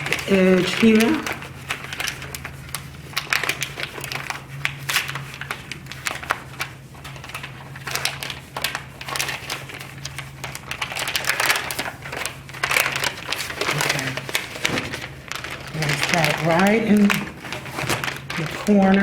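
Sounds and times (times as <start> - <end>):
contact paper crinkling: 0.0 - 19.0.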